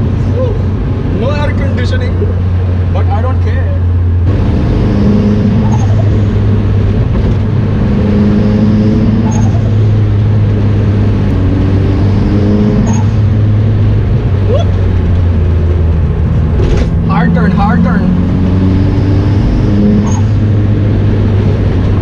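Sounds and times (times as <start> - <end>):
car engine under load: 0.0 - 22.0.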